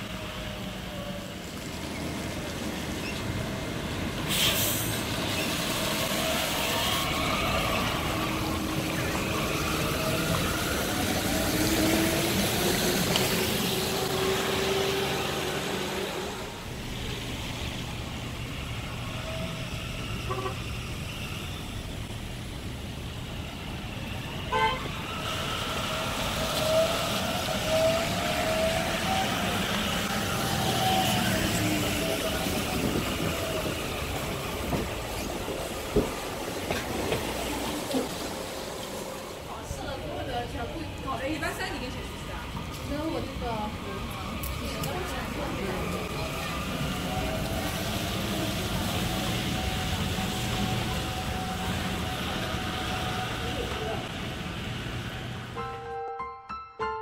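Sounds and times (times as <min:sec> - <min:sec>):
tyres hissing on wet street: 0:00.0 - 0:55.6
tram motors whining: 0:00.0 - 0:55.7.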